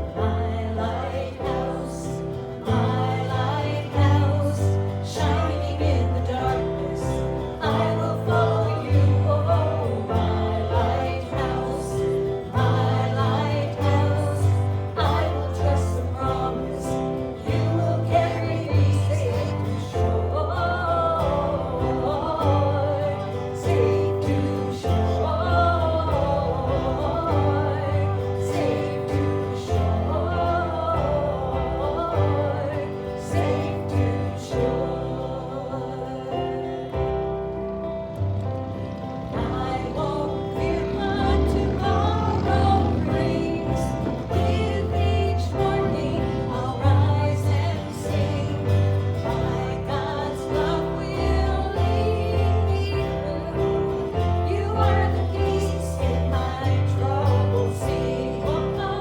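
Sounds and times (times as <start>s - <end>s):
voices singing a hymn: 0.0s - 59.0s.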